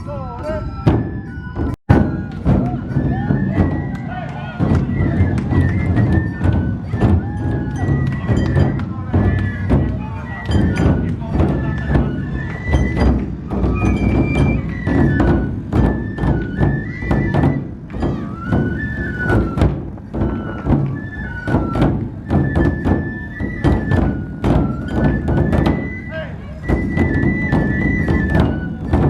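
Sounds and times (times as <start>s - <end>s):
bamboo flute melody: 0.0s - 29.0s
large drums beaten fast: 0.7s - 29.0s.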